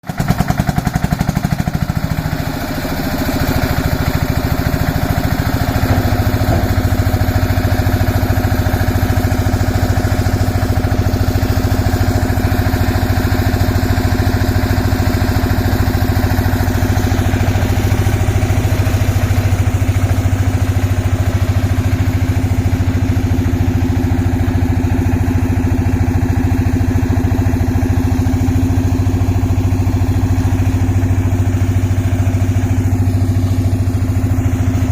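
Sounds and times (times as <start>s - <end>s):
concrete mixer engine running: 0.0s - 34.9s.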